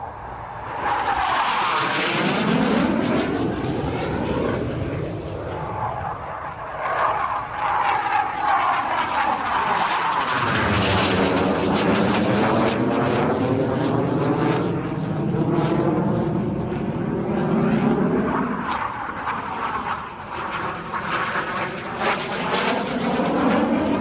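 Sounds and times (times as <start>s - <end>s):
jet flying overhead: 0.0s - 24.0s.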